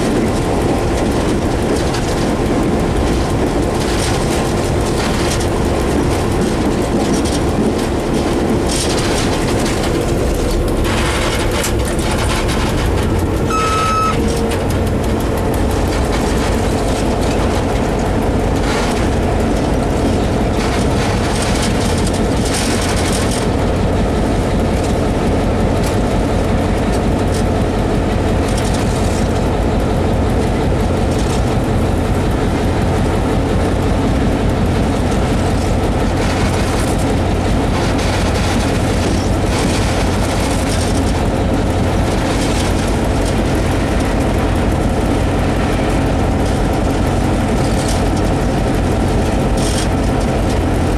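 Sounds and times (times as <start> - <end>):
locomotive engine drone: 0.0 - 50.9
wheels on rails: 0.0 - 50.9.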